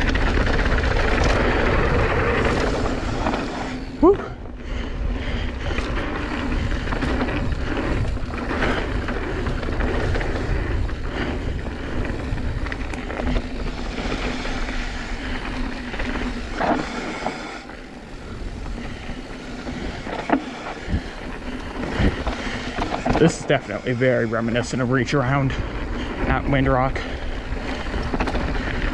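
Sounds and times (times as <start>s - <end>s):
bike tyres rolling on dirt trail: 0.0s - 28.9s
wind rushing over microphone: 0.0s - 28.9s.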